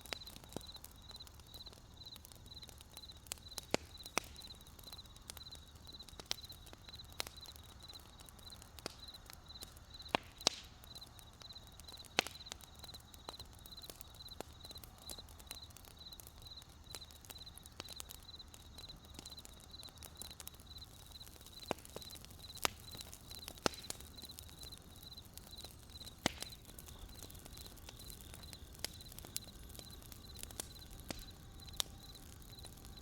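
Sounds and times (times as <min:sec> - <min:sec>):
crickets chirping: 0:00.0 - 0:10.1, 0:10.9 - 0:33.0
firewood crackling and popping: 0:00.0 - 0:33.0.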